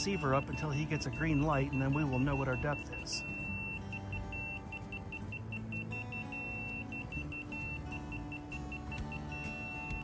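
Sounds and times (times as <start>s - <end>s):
quick short high beeps: 0.0s - 10.0s
steady beeping tone: 0.0s - 10.0s.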